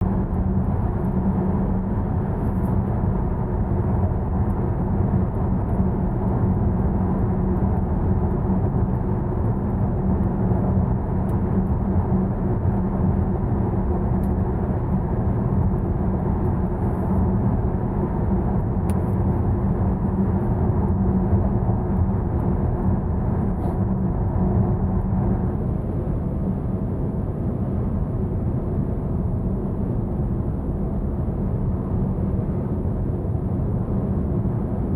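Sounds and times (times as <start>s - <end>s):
road and tyre noise in car: 0.0s - 34.9s.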